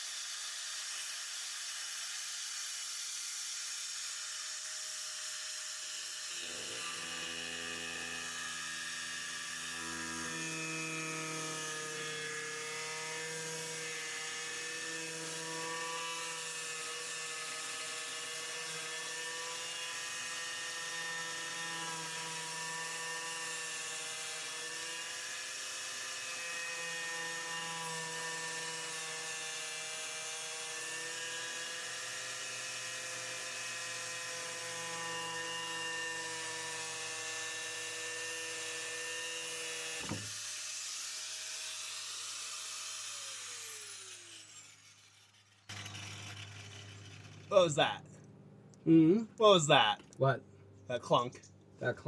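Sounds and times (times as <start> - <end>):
power tool whirring: 0.0 - 49.4.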